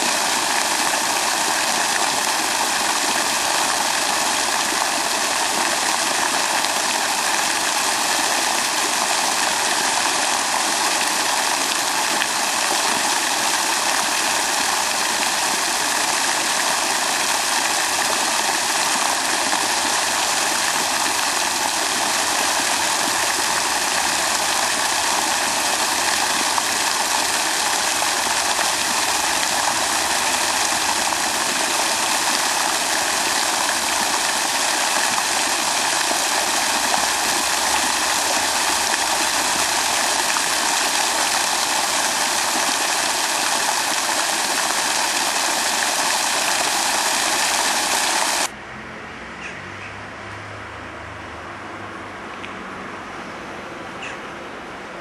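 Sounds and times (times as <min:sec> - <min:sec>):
running water rushing: 0:00.0 - 0:48.5.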